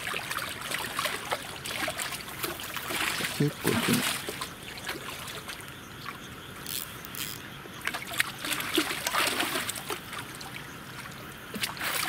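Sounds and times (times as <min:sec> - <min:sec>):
fish splashing at water surface: 0:00.0 - 0:12.0.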